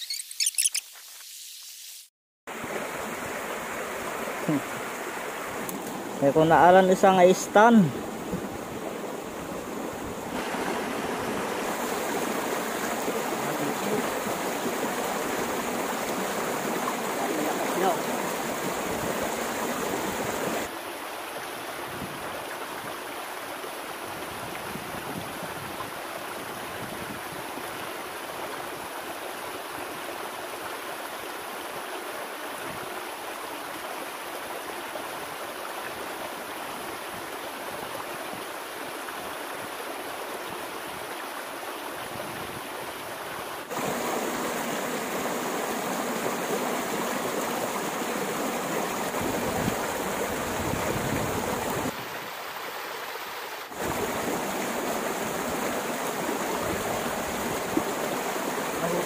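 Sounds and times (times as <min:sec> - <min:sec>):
flowing stream: 0:00.0 - 0:59.0.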